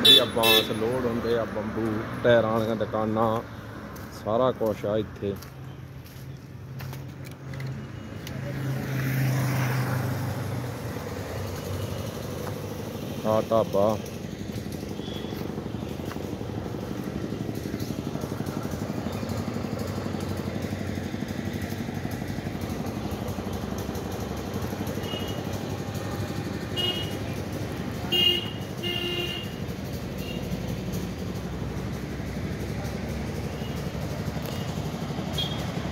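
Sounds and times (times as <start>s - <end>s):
vehicle engine humming: 0.0s - 35.9s.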